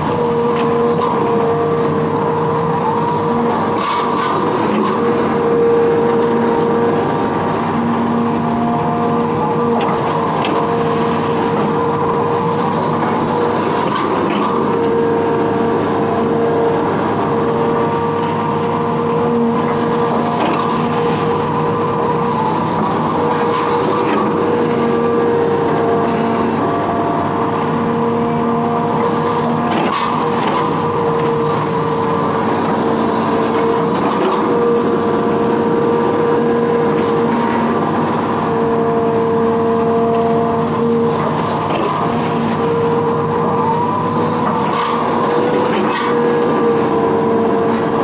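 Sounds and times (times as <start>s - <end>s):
excavator diesel engine droning: 0.0s - 48.0s.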